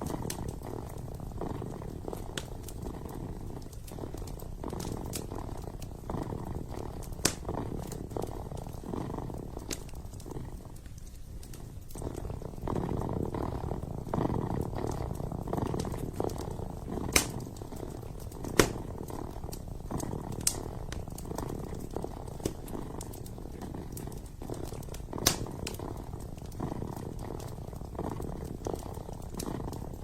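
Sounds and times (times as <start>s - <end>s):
kitten purring: 0.0s - 30.0s
wood fire popping: 0.0s - 30.0s.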